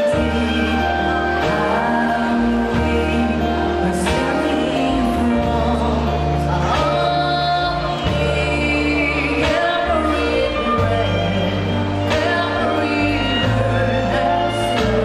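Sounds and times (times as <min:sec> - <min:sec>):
double bass: 0:00.0 - 0:15.0
guitar: 0:00.0 - 0:15.0
keyboard: 0:00.0 - 0:15.0
person singing: 0:00.0 - 0:15.0
violin: 0:00.0 - 0:15.0.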